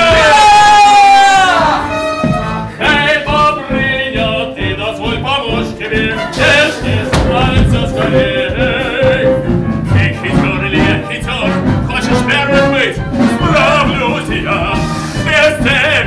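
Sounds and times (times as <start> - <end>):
melodic music: 1.8 - 16.0.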